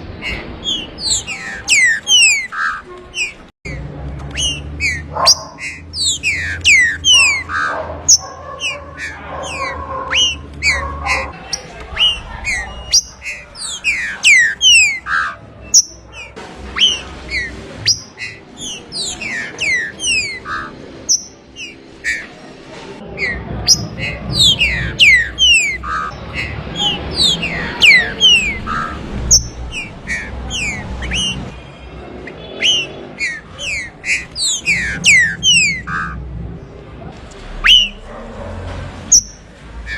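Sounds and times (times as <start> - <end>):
bird singing whistled notes: 0.2 - 22.3, 23.2 - 31.5, 32.3 - 36.2, 37.6 - 38.0.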